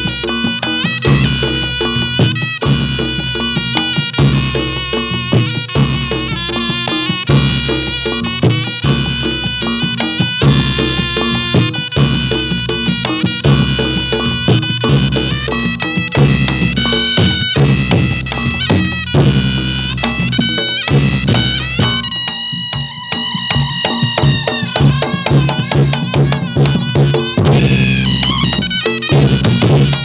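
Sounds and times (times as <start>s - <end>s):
drums and gongs: 0.0s - 30.0s
shrill reedy shawm melody: 0.0s - 30.0s.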